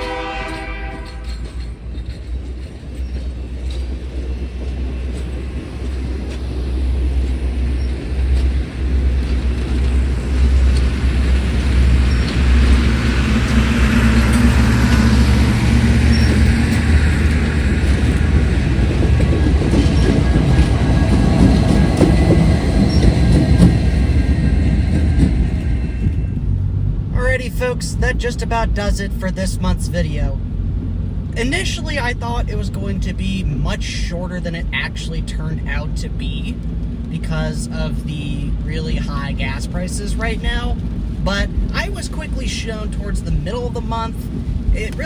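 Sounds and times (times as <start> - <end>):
diesel train passing: 0.0 - 45.0
wheels rumbling on rails: 0.0 - 45.0.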